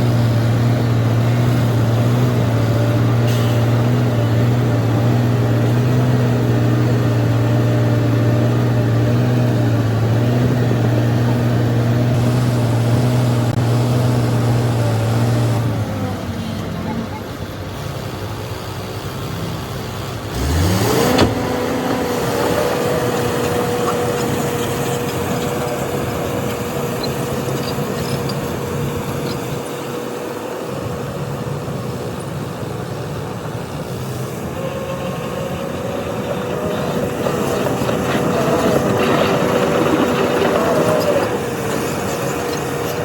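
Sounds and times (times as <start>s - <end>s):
diesel engine revving: 0.0s - 43.0s.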